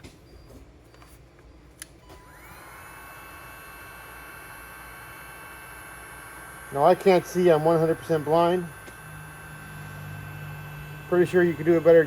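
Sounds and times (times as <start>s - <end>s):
heat gun fan whining: 0.0s - 12.0s.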